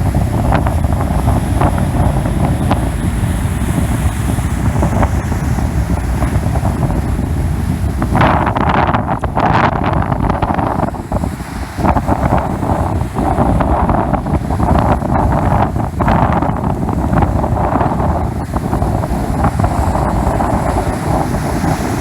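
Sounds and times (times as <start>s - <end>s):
heavy surf: 0.0s - 22.0s
storm wind buffeting microphone: 0.0s - 22.0s.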